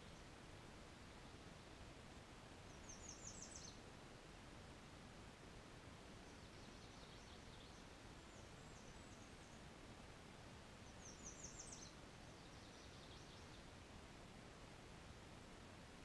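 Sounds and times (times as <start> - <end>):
faint songbird song: 0.0 - 16.0
low steady hiss: 0.0 - 16.0.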